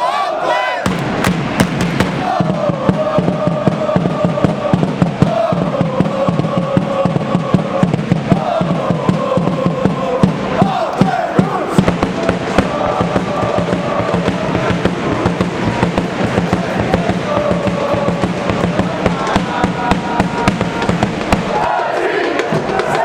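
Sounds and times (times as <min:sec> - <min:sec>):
crowd singing a chant: 0:00.0 - 0:23.0
fast steady drumbeats: 0:00.8 - 0:23.0.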